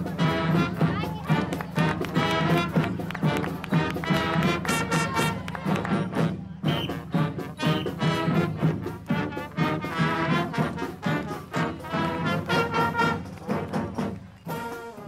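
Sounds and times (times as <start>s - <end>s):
marching band playing: 0.0s - 15.0s
steady drum beat: 0.0s - 15.0s.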